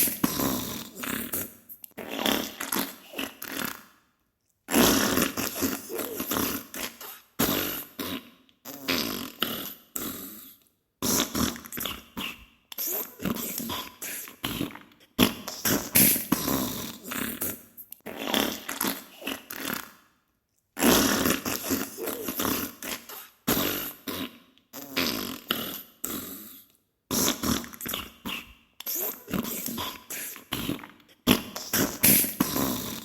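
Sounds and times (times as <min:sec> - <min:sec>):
wet sputtering farts: 0:00.0 - 0:03.8, 0:04.7 - 0:09.7, 0:11.0 - 0:13.9, 0:14.5 - 0:20.0, 0:20.8 - 0:26.2, 0:27.1 - 0:30.0, 0:30.6 - 0:33.0.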